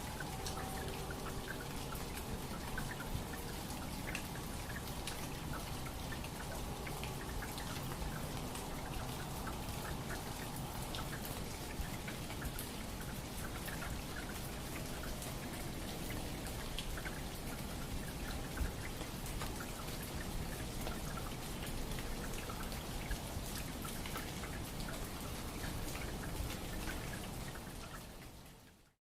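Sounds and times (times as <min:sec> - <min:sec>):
patter of water drops: 0:00.0 - 0:28.8.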